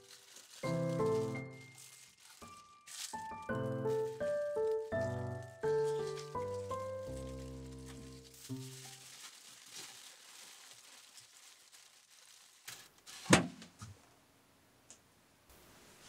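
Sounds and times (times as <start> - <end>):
aluminium foil rustling: 0.0 - 13.8.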